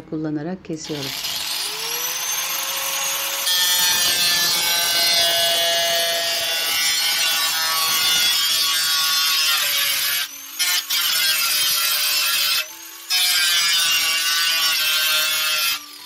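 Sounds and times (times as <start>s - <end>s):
angle grinder cutting metal: 0.8s - 16.0s.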